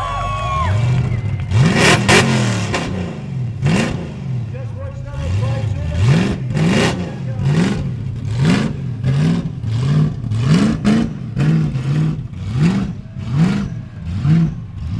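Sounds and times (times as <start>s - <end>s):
car engine revving: 0.5s - 14.9s.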